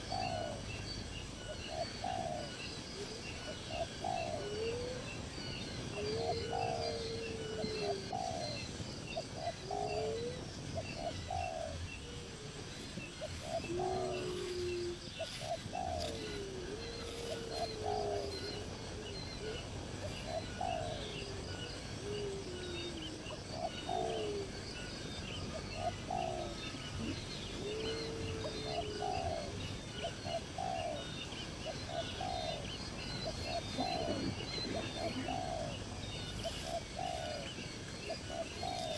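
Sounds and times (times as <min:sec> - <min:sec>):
birds calling with low notes: 0:00.0 - 0:38.9.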